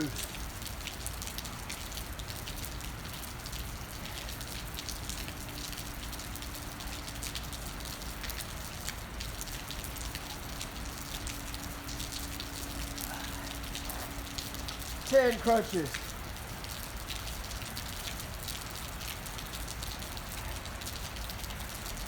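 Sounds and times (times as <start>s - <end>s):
raindrops hitting a surface: 0.0s - 22.0s
steady rain: 0.0s - 22.0s.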